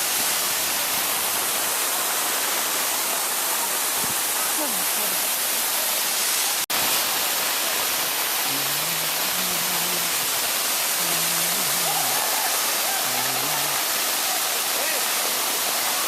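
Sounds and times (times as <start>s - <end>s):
waterfall rushing hiss: 0.0s - 16.0s.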